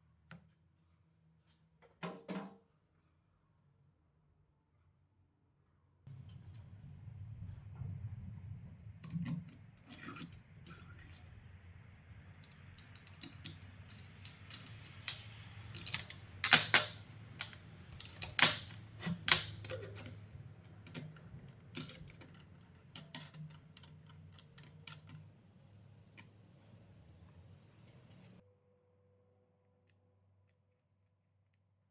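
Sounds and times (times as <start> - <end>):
low steady hum: 6.1 - 31.9.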